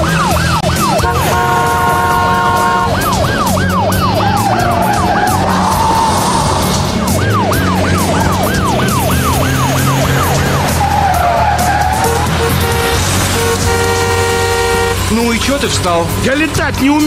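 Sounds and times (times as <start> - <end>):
ambulance siren: 0.0 - 15.4
car engines humming: 0.0 - 17.0.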